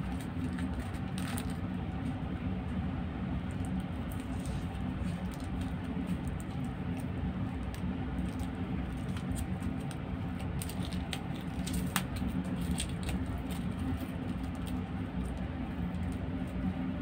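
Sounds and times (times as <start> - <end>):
plastic film crinkling: 0.0 - 1.7, 3.7 - 16.6
steady low hum: 0.0 - 17.0.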